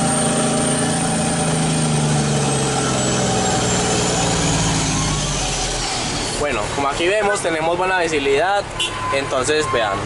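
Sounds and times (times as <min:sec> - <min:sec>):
diesel truck engine running: 0:00.0 - 0:08.8.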